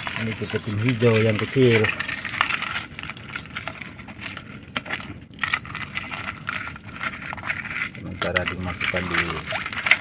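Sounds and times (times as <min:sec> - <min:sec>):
crabs clicking and scraping on metal: 0:00.0 - 0:10.0.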